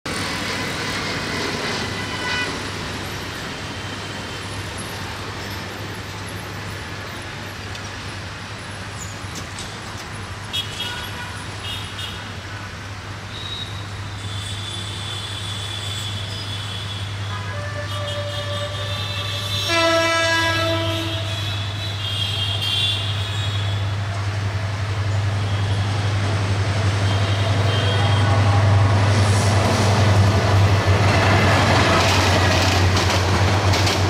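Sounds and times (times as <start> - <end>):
traffic and station background: 0.0 - 34.0.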